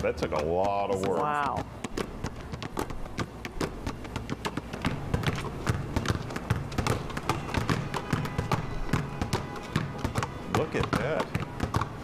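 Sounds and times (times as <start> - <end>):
basketballs bouncing on asphalt: 0.0 - 12.0.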